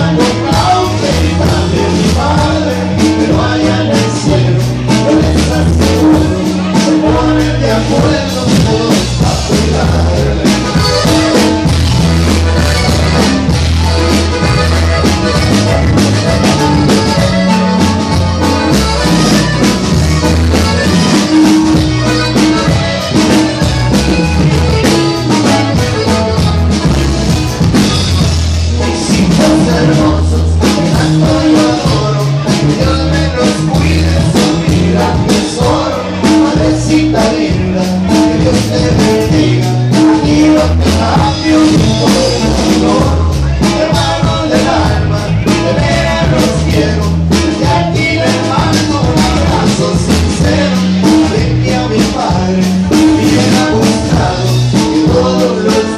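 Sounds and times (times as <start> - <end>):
electric bass and drums: 0.0 - 55.9
live band playing: 0.0 - 55.9.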